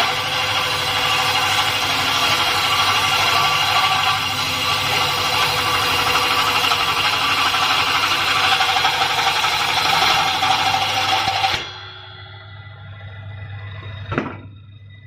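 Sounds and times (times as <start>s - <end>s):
table saw whirring: 0.0s - 15.0s.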